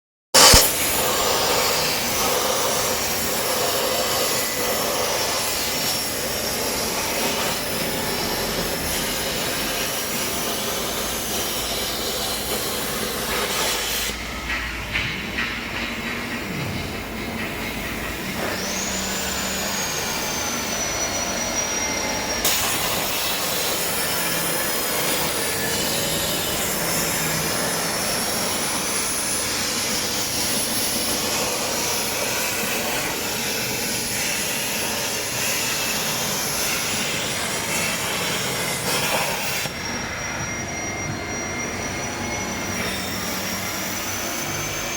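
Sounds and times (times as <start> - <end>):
plasma cutter hissing: 0.4 - 14.5, 17.0 - 39.7.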